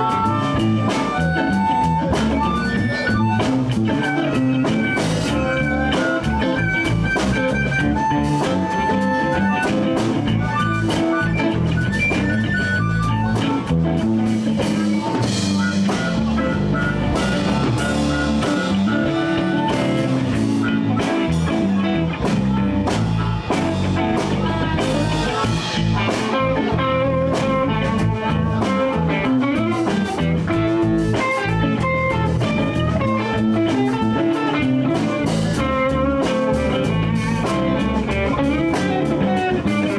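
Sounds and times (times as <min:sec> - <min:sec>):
blues band playing: 0:00.0 - 0:39.9
sustained lead guitar notes: 0:00.0 - 0:39.9.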